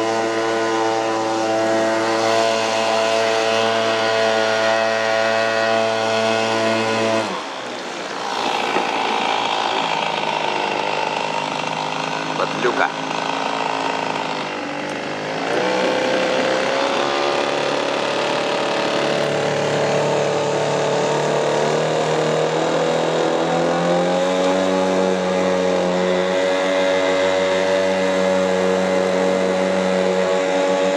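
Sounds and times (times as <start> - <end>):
small outboard motor revving: 0.0 - 30.9.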